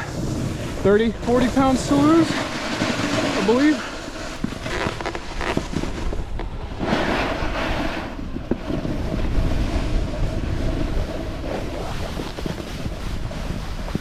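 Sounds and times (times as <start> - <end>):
snowboard swishing through snow: 0.0 - 14.0
wind buffeting microphone: 0.0 - 14.0.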